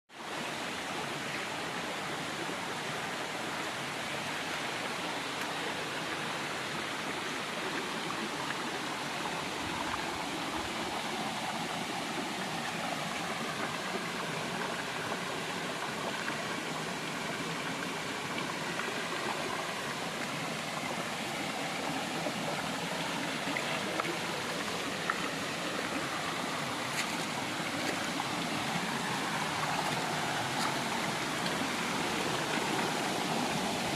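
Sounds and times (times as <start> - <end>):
river water rushing over stones: 0.2 - 33.9.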